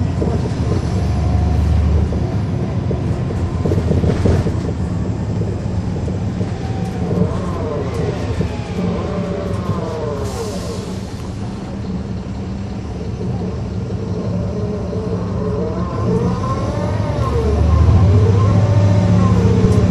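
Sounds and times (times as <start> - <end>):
bus diesel engine droning: 0.0 - 19.9
drive axle gear whine: 0.0 - 19.9
road rumble: 0.0 - 19.9.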